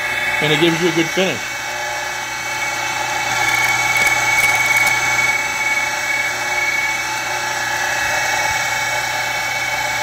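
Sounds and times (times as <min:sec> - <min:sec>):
grinder high whine: 0:00.0 - 0:10.0.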